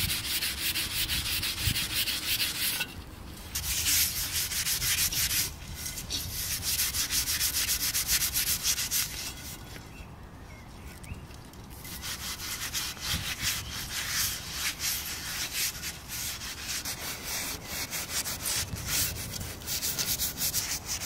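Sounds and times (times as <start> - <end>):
wire pad scrubbing ceramic: 0.0 - 9.8, 11.8 - 21.0.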